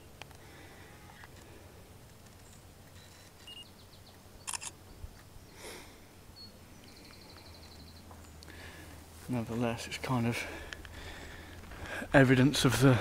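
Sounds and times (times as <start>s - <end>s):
faint birds calling: 0.0s - 13.0s.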